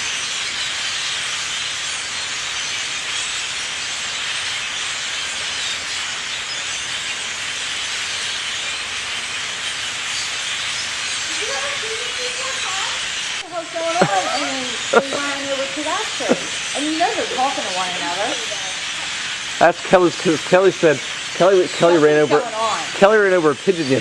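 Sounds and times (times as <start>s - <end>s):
huge flock of birds calling: 0.0s - 24.0s.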